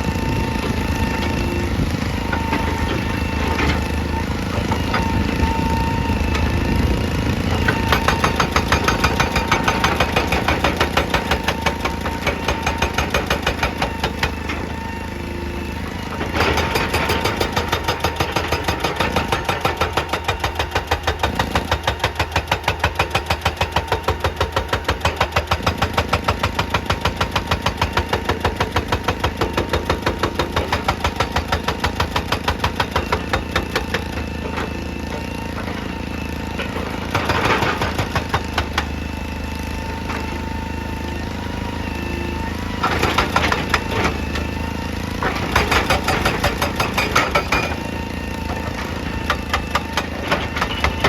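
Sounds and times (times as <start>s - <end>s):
excavator diesel engine: 0.0s - 51.0s
hydraulic breaker hammering rock: 0.0s - 51.0s.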